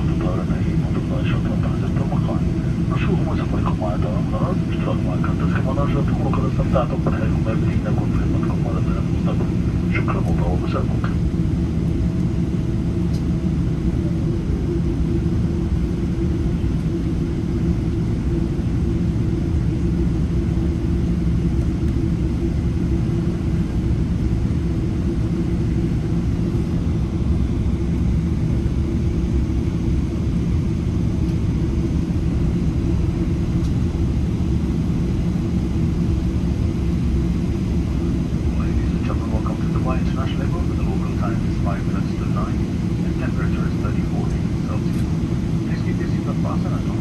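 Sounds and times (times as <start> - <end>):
aircraft cabin rumble: 0.0 - 47.0.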